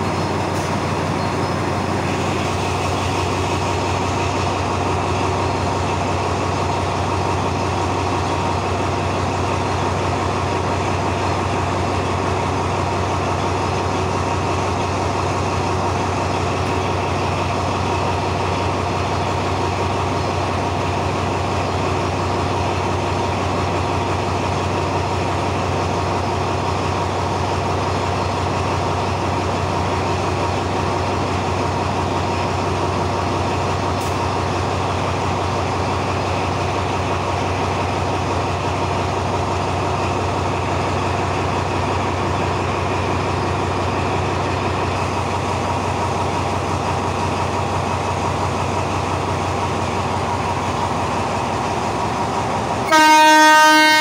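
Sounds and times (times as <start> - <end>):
diesel locomotive idling: 0.0 - 54.0.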